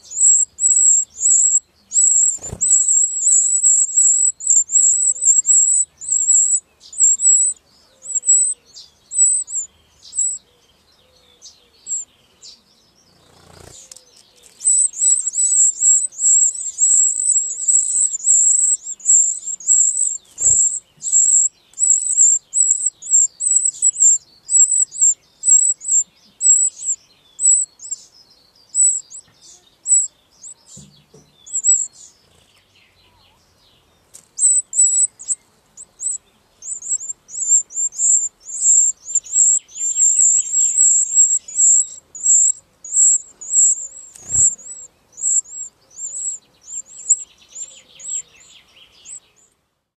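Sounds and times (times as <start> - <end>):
nestlings cheeping: 0.0 - 10.4, 11.8 - 12.1, 13.4 - 28.1, 28.7 - 30.6, 31.4 - 32.0, 34.1 - 48.3.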